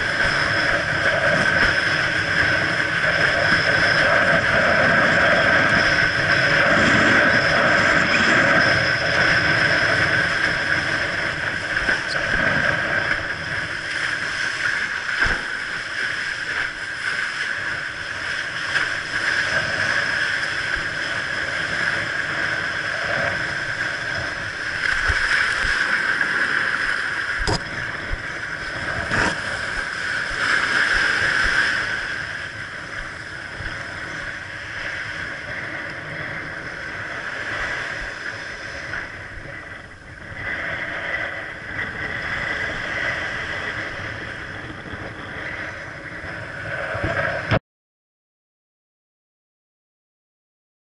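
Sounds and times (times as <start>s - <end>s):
water rushing: 0.0s - 47.6s.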